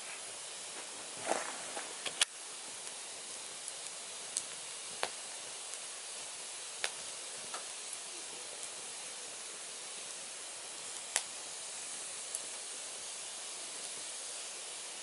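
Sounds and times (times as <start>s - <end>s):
firewood crackling and hissing: 0.0s - 15.0s.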